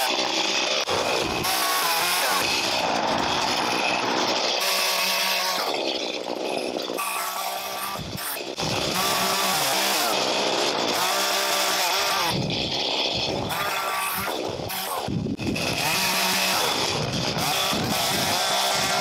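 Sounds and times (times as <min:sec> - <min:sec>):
chainsaw cutting branches: 0:00.0 - 0:19.0.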